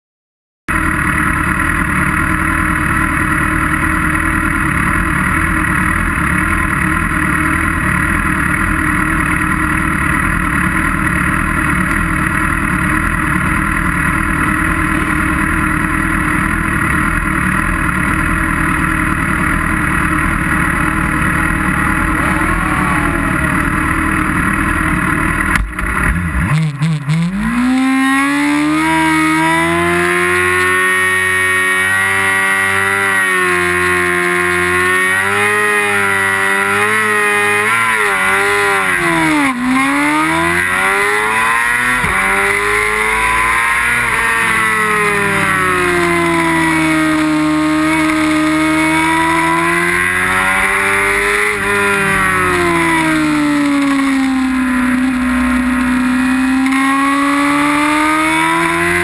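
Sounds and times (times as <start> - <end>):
motorcycle engine revving: 0.7 - 59.0
motorcycle engines idling: 0.7 - 59.0.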